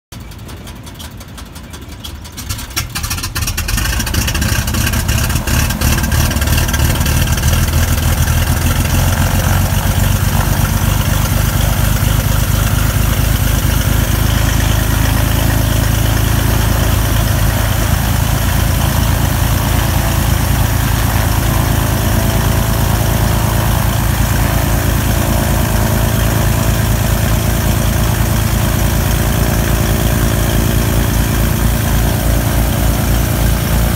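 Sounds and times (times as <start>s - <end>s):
propeller airplane engine starting: 0.1s - 33.9s.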